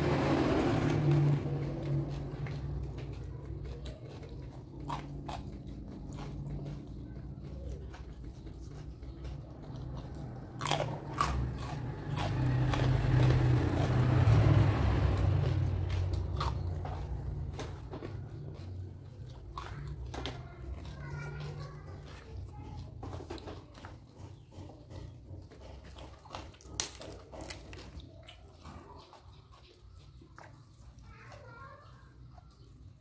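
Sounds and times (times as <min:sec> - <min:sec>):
chewing and crunching vegetables: 0:00.0 - 0:33.0.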